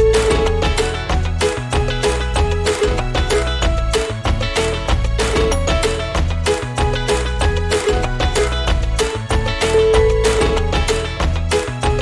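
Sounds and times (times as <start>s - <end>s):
background music with quick beat: 0.0s - 12.0s.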